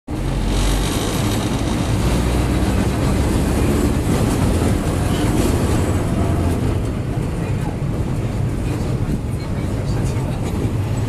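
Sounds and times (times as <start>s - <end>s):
tram wheels rumbling on rails: 0.1s - 11.0s.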